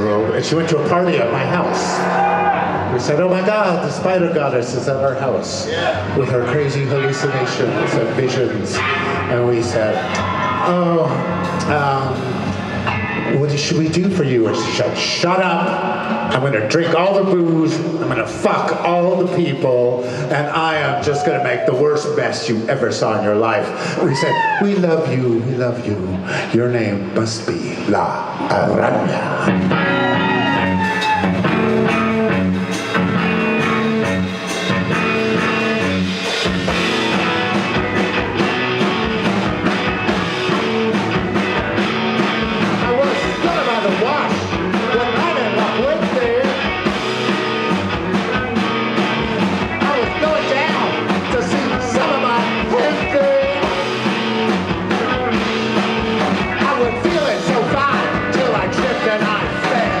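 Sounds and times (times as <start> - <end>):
live rock band playing: 0.0 - 24.9, 29.4 - 60.0
drums: 0.0 - 60.0.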